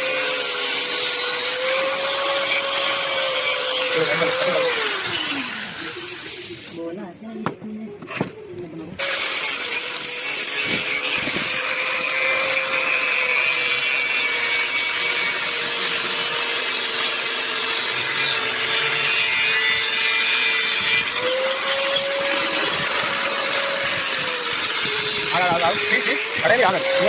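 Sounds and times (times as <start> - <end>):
power tool motor running: 0.0 - 6.8, 9.0 - 27.0.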